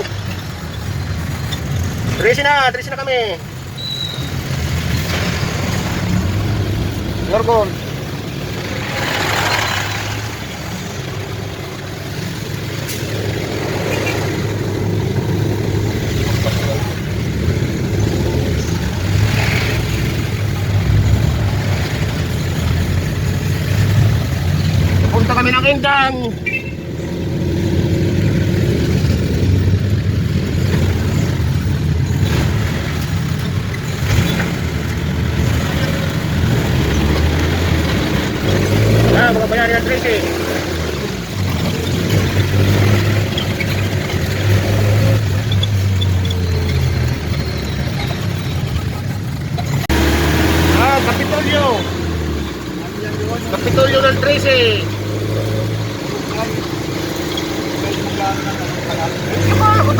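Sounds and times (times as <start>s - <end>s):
road and wind noise: 0.0s - 59.9s
vehicle engine humming: 0.0s - 59.9s.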